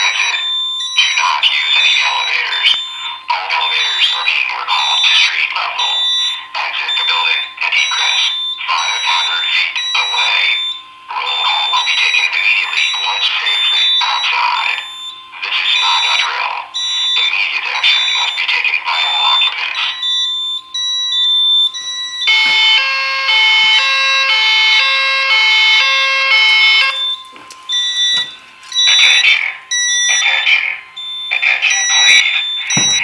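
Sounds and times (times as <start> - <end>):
recorded voice announcement: 0.0 - 20.2, 21.7 - 33.0
electronic evacuation tone: 0.0 - 33.0
short high alarm tones: 0.0 - 33.0.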